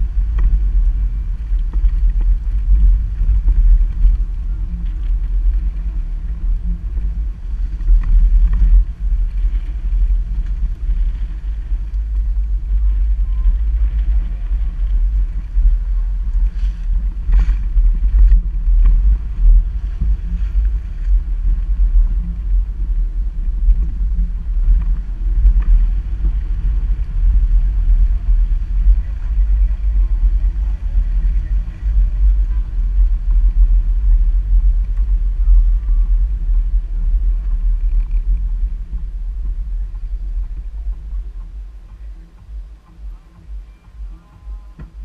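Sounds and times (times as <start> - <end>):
vehicle rumbling on dirt track: 0.0 - 45.0.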